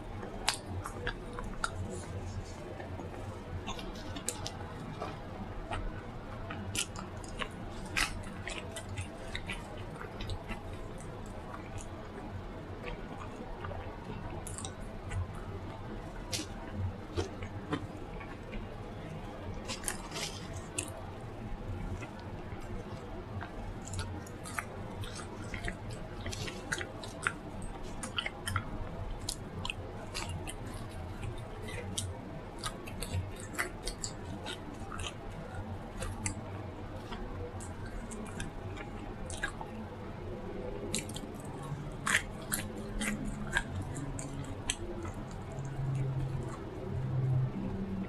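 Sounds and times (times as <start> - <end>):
person chewing and smacking: 0.0 - 47.8.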